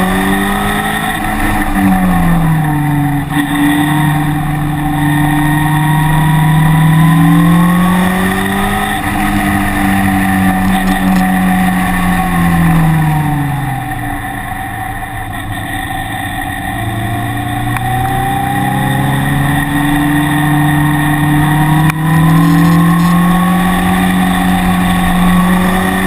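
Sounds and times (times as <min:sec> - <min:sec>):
car engine accelerating: 0:00.0 - 0:26.0
road and wind noise: 0:00.0 - 0:26.0.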